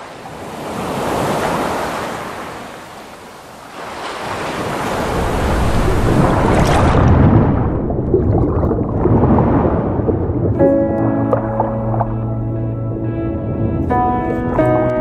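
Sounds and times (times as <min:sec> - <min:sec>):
ocean waves washing: 0:00.0 - 0:14.3.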